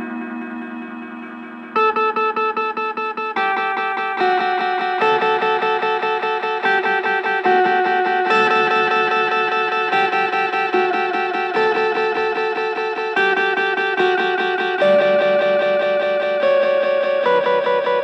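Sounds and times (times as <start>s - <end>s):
electric guitar with fast echoes: 0.0s - 18.0s.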